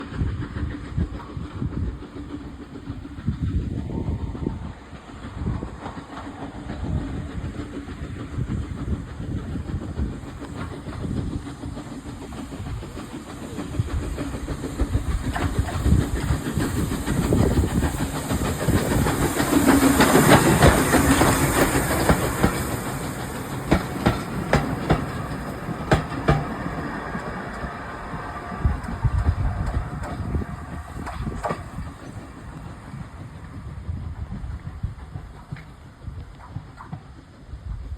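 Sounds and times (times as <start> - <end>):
steam locomotive passing: 0.0 - 37.9
wheels clicking over rail joints: 5.4 - 37.9.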